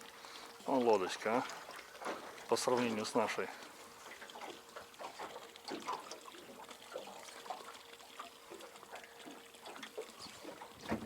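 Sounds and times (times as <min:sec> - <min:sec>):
faint steady hum: 0:00.0 - 0:11.0
small splashes: 0:00.0 - 0:11.0
water trickling and lapping: 0:00.0 - 0:11.0.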